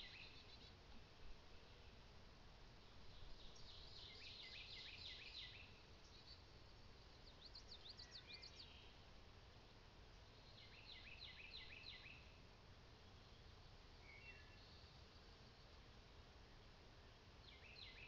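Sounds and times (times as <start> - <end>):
faint bird song: 0.0 - 18.0
faint low outdoor rumble: 0.0 - 18.0.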